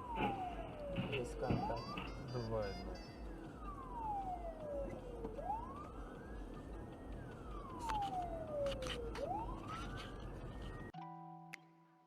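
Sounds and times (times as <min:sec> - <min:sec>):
low road rumble: 0:00.0 - 0:10.9
emergency siren wailing: 0:00.0 - 0:11.0.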